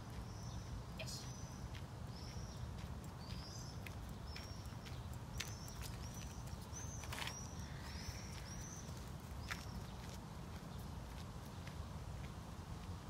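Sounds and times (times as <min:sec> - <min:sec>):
small bird chirping: 0:00.1 - 0:10.9
footsteps on gravel: 0:01.7 - 0:12.9.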